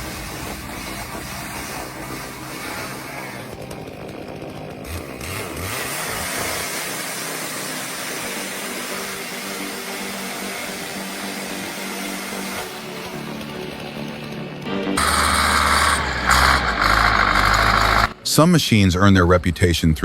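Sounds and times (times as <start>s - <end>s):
chainsaw cutting timber: 0.0s - 18.2s.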